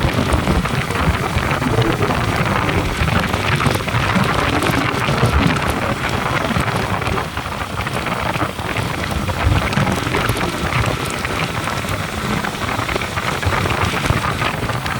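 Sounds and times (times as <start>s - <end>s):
low uneven rumble: 0.0s - 14.2s
wind and road noise: 0.0s - 14.9s.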